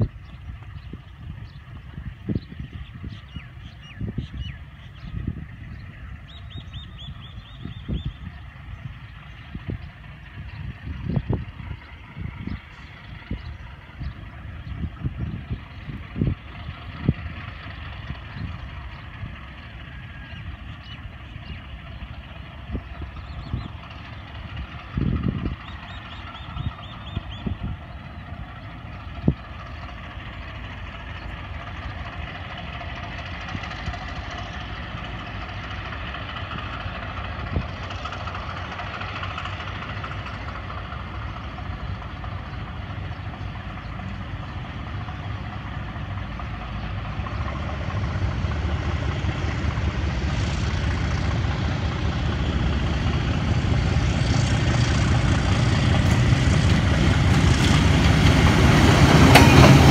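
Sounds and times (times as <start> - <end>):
diesel locomotive engine rumble: 0.0 - 59.9.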